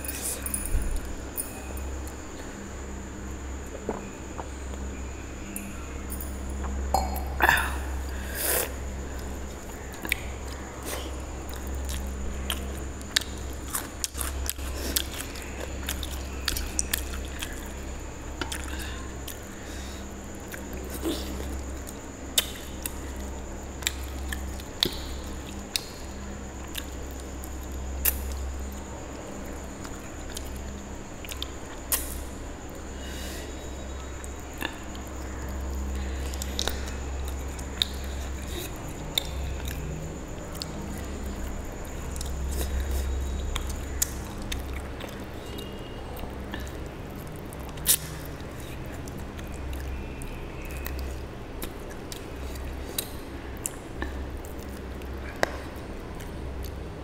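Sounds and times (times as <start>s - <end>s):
low steady hum: 0.0s - 57.0s
chewing with wet mouth smacks: 9.1s - 28.8s, 29.4s - 32.7s, 34.0s - 56.9s.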